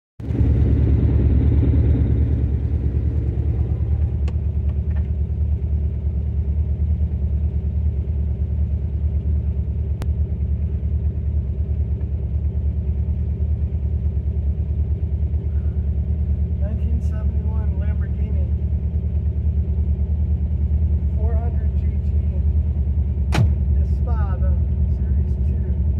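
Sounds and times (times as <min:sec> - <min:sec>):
car engine idling: 0:00.2 - 0:25.9.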